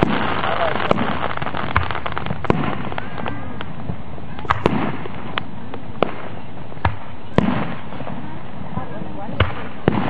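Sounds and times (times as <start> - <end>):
firework shells bursting: 0.0 - 8.1.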